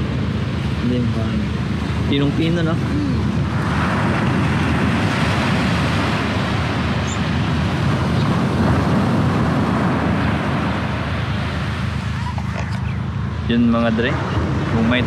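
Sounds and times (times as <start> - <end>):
waves breaking on a beach: 0.0 - 15.0
wind rumbling on microphone: 0.0 - 15.0.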